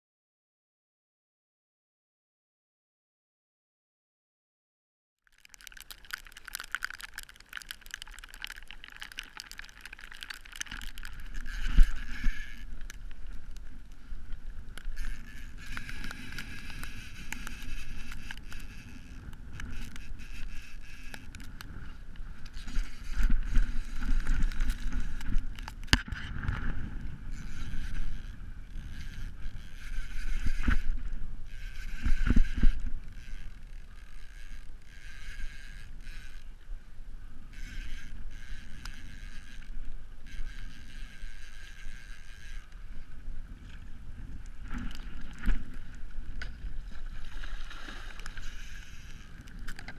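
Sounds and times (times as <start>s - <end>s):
wind rumbling on microphone: 5.8s - 49.9s.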